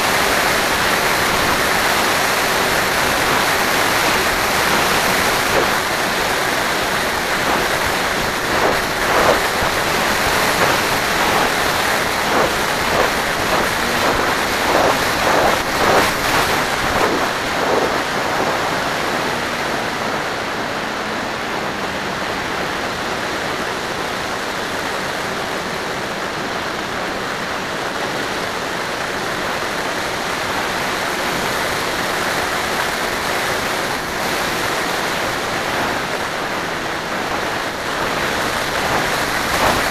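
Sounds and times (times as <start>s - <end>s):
motor and propeller hum: 0.0s - 26.7s, 31.2s - 39.9s
wind rushing over microphone: 0.0s - 39.9s.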